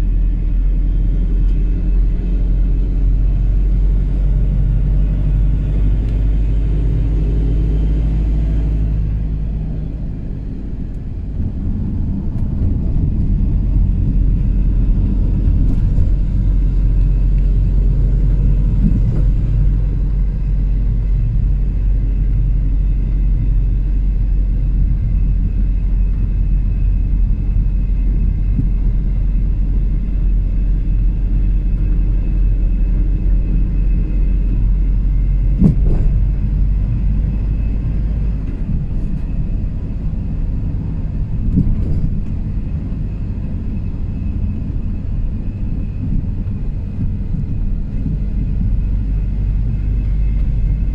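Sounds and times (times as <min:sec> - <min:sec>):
car driving rumble inside cabin: 0:00.0 - 0:50.9.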